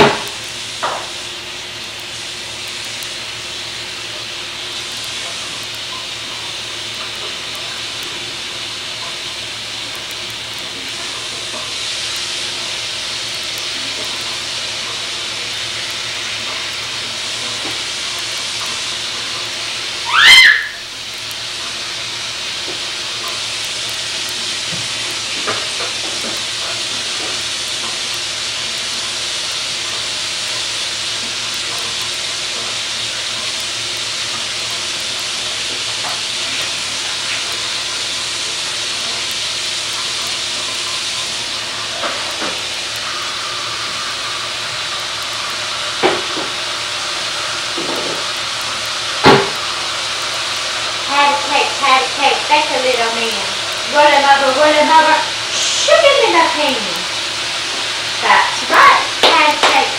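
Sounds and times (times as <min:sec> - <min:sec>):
steady loud hiss: 0:00.0 - 0:59.9.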